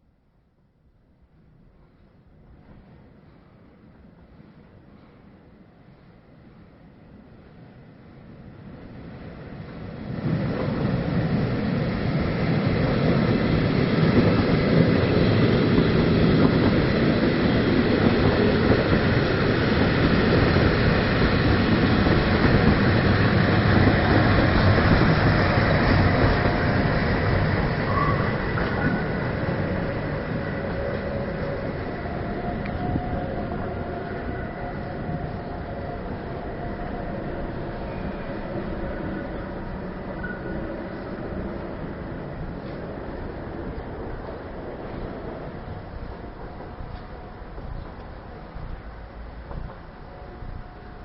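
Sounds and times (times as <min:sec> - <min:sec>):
train running on rails: 0:00.0 - 0:51.0.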